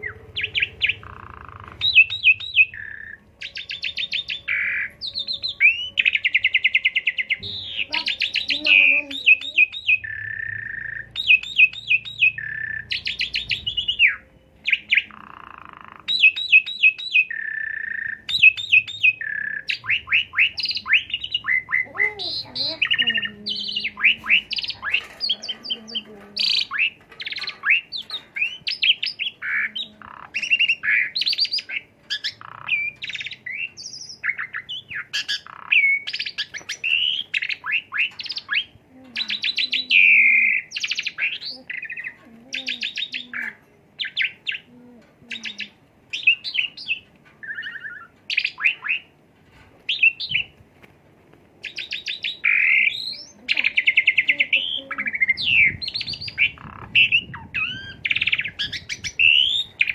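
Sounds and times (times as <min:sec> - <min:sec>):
starling singing: 0:00.0 - 0:49.2, 0:49.8 - 0:50.6, 0:51.6 - 0:59.9.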